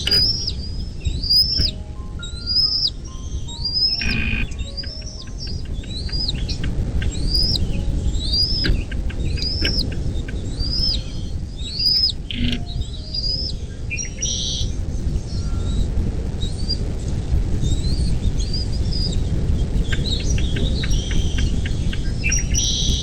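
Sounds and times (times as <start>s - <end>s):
bird whistled call: 0.0s - 14.7s, 15.3s - 16.8s, 17.6s - 23.0s
low rumble: 0.0s - 23.0s.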